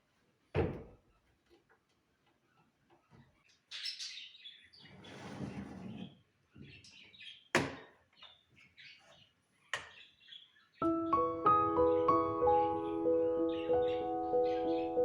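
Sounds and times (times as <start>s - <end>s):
small birds chirping: 2.1s - 5.2s, 6.0s - 15.0s.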